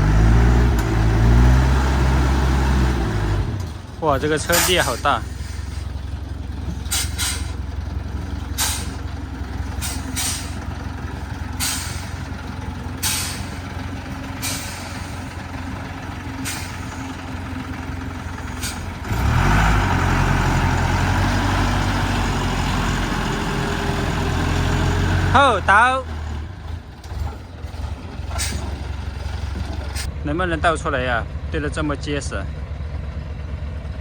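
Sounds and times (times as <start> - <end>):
truck engine idling and revving: 0.0 - 34.0.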